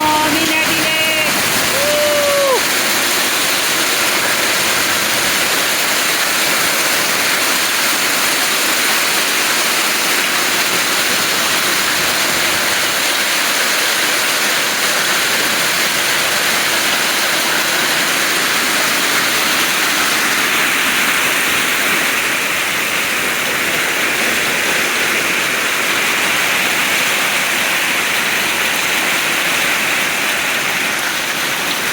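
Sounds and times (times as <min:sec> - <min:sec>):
hail and heavy rain pelting: 0:00.0 - 0:31.9.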